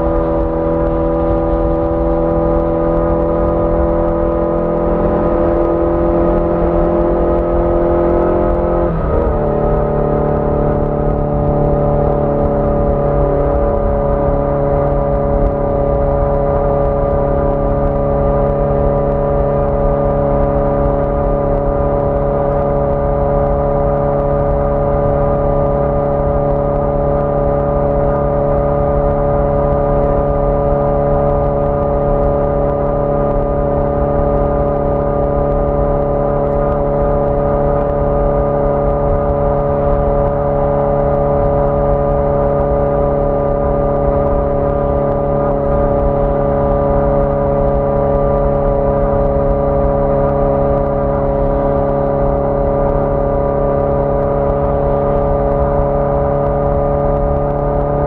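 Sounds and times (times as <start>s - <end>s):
motorcycle engine cruising: 0.0s - 58.0s
road and wind rumble: 0.0s - 58.0s.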